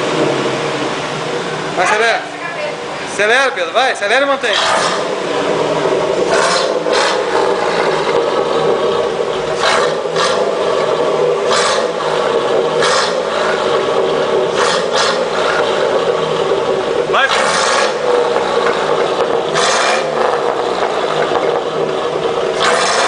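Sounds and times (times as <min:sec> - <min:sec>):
engine exhaust drone: 0:00.0 - 0:23.0.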